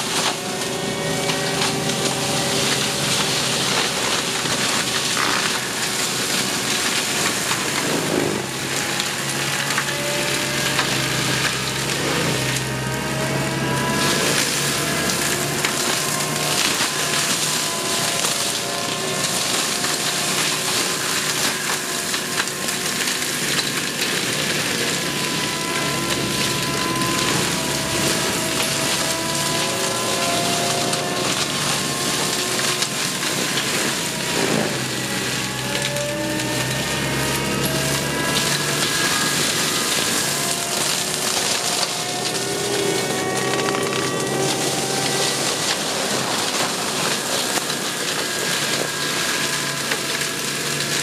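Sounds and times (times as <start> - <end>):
engine and rotor drone: 0.0 - 51.0
mulcher shredding wood: 0.0 - 51.0.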